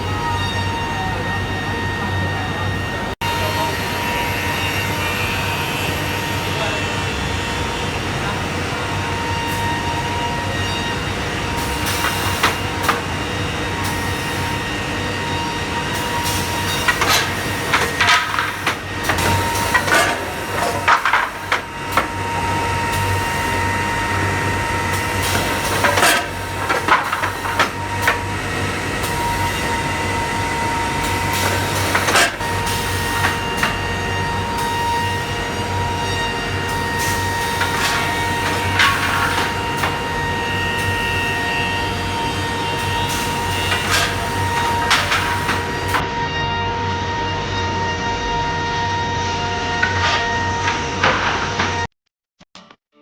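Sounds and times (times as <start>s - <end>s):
woodworking machine humming and whining: 0.0s - 51.8s.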